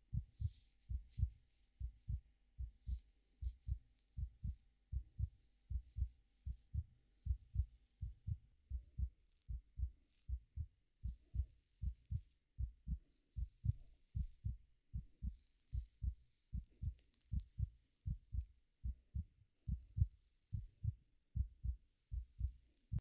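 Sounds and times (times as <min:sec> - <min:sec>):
heartbeat thumps: 0:00.1 - 0:23.0.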